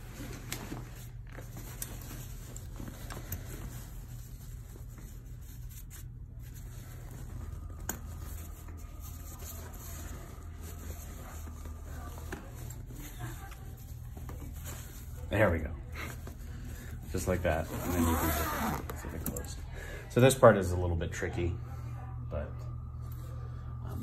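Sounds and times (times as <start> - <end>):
nylon fabric rustling: 0.0 - 19.4
steady low hum: 0.0 - 24.0.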